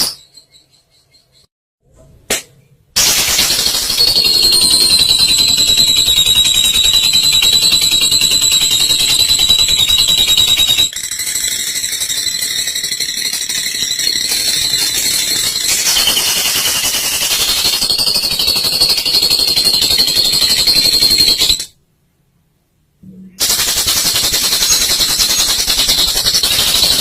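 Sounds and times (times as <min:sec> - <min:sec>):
lovebird rattling trill: 0:03.0 - 0:21.7, 0:23.4 - 0:27.0.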